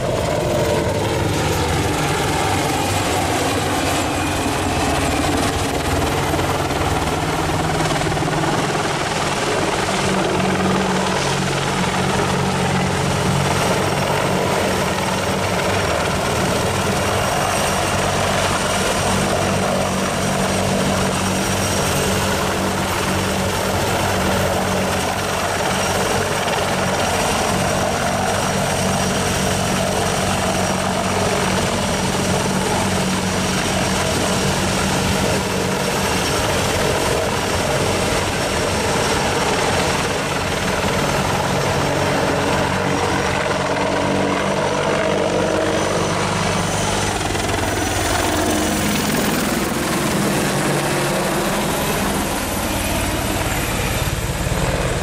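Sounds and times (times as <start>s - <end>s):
helicopter rotors and engines: 0.0s - 55.0s.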